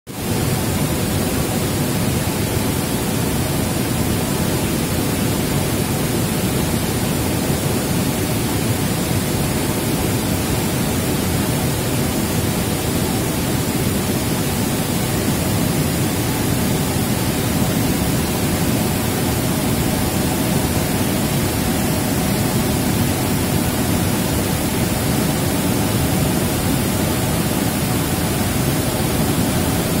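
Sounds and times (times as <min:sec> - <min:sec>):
river rushing through rapids: 0:00.1 - 0:30.0.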